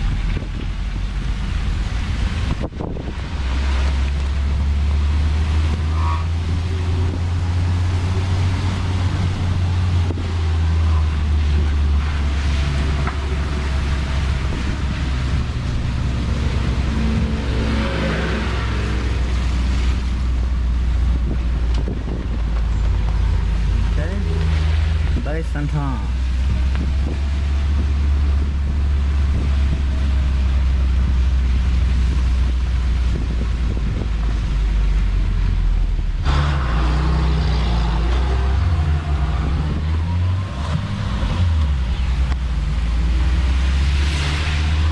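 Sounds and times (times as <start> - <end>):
car engine droning: 0.0 - 44.9
wind rushing across microphone: 0.0 - 44.9.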